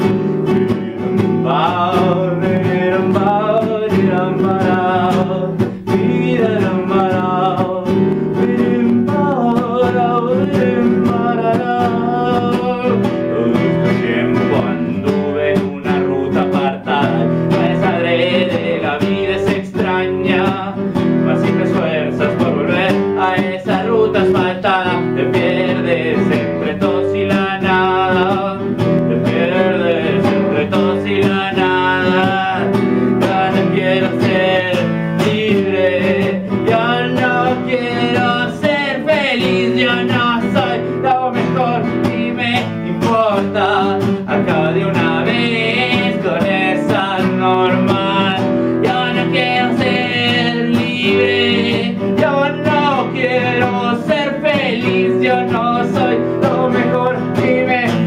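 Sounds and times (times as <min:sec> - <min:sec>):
classical guitar strumming: 0:00.0 - 0:58.0.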